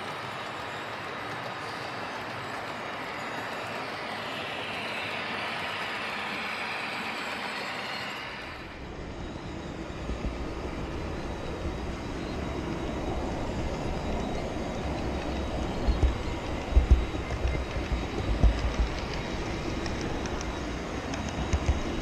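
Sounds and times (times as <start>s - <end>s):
model train wheels on rails: 0.0s - 9.0s, 10.1s - 22.0s.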